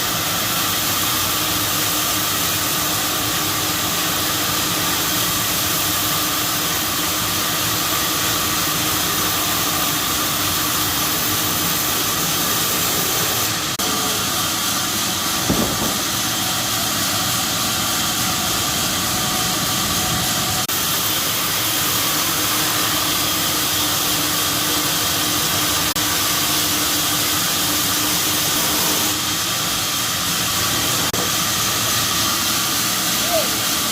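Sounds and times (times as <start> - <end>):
machine running with hiss: 0.0 - 33.9.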